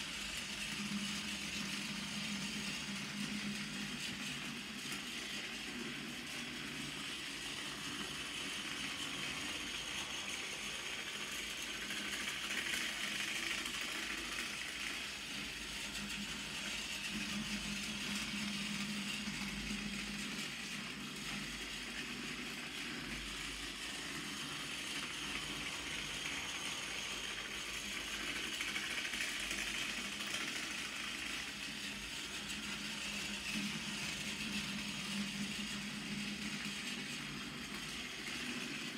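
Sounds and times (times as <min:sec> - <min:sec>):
toy train motor whirring: 0:00.0 - 0:38.9.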